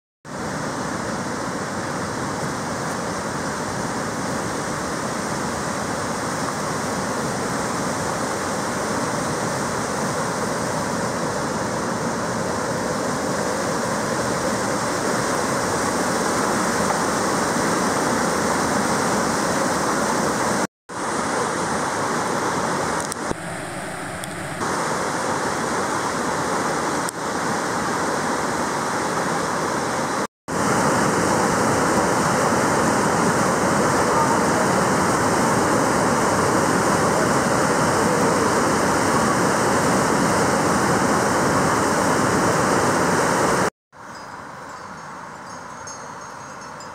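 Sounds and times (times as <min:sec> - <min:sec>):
rushing mountain stream: 0:00.3 - 0:46.9.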